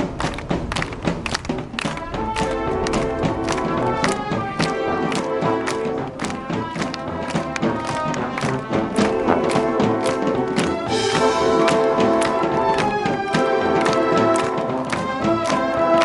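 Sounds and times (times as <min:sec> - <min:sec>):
steady drum beat: 0:00.0 - 0:16.0
brass and woodwinds: 0:01.8 - 0:16.0.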